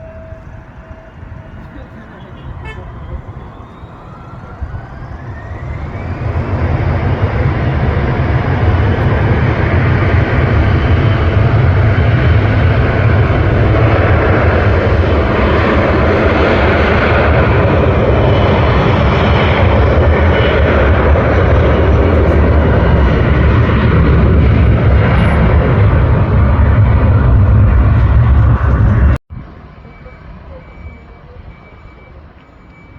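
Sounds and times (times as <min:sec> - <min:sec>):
deep rumble: 0:00.0 - 0:29.6
airliner engines roaring: 0:00.0 - 0:32.9.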